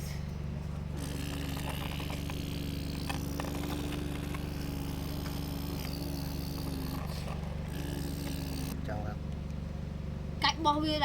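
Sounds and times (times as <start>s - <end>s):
excavator engine drone: 0.0s - 11.0s
hydraulic whine: 0.0s - 11.0s.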